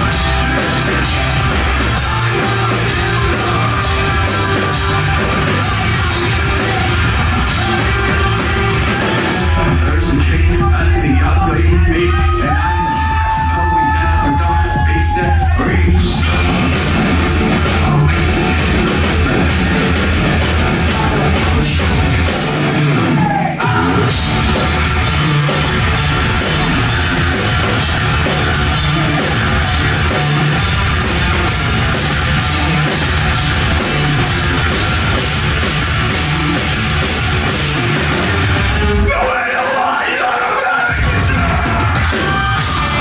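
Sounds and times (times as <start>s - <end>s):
rock band playing loud: 0.0s - 43.0s.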